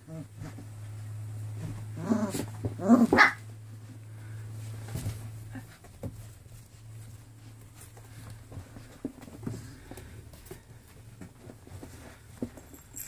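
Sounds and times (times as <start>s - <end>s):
steady low hum: 0.0s - 13.0s
puppies' paws pattering: 0.3s - 13.0s.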